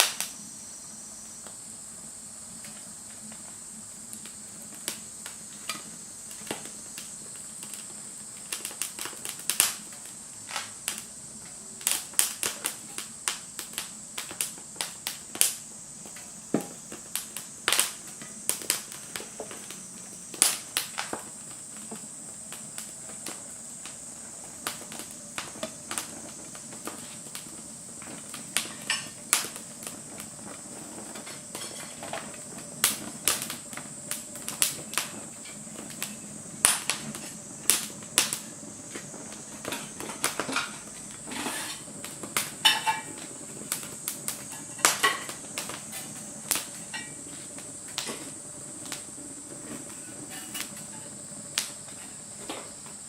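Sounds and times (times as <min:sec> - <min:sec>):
wood fire crackling in a stove: 0:00.0 - 0:53.0.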